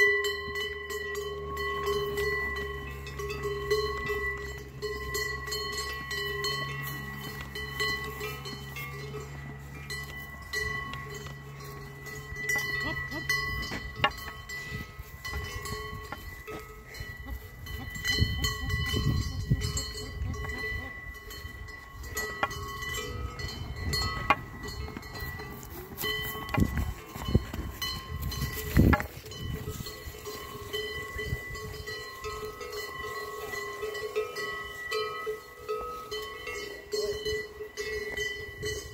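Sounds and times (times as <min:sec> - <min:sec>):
cowbells ringing: 0:00.0 - 0:38.9.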